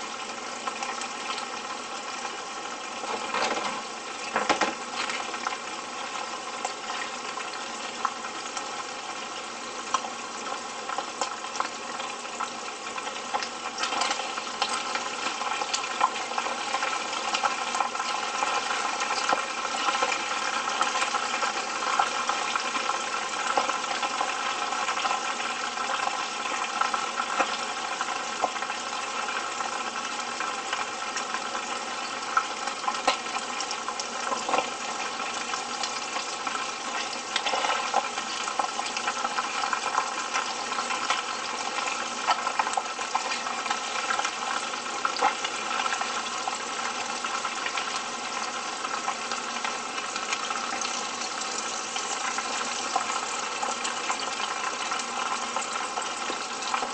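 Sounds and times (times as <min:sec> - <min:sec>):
chicken sizzling in oil: 0:00.0 - 0:56.9.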